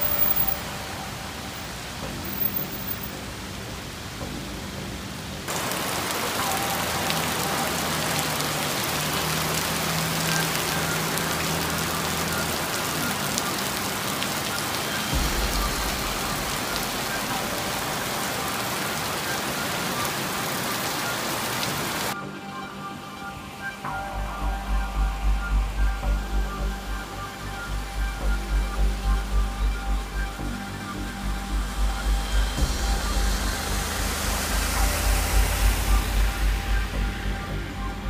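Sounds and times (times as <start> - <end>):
background music: 0.0 - 38.0
heavy rain on wet street: 0.0 - 38.0.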